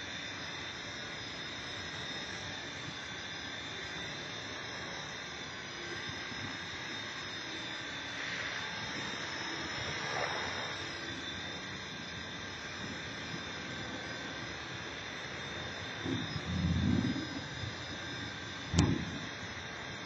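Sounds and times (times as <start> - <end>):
rc helicopter rotor whine: 0.0 - 20.0.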